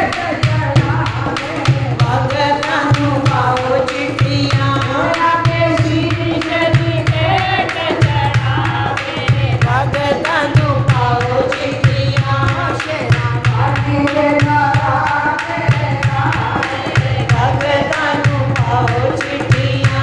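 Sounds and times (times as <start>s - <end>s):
person singing: 0.0s - 20.0s
quick drum beat: 0.0s - 20.0s.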